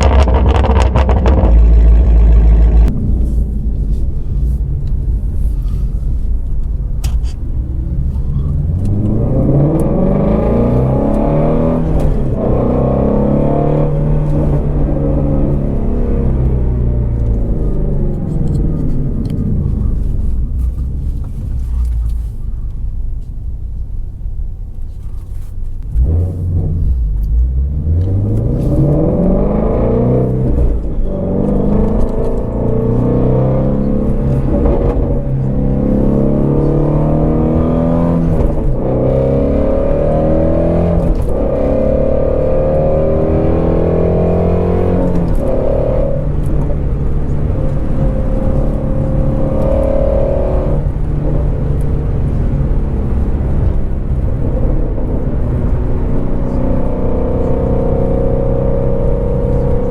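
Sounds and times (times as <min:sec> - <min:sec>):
car engine revving: 0:00.0 - 0:23.2, 0:24.0 - 0:59.9.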